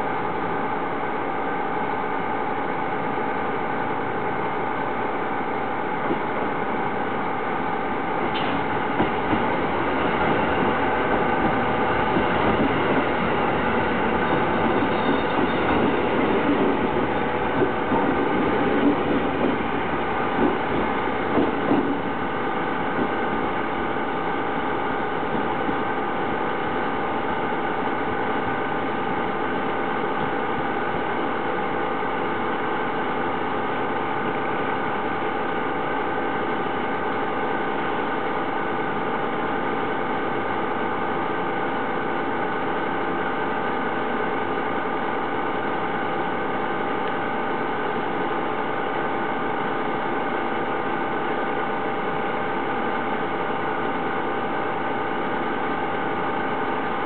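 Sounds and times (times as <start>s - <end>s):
passing train: 0.0s - 57.0s.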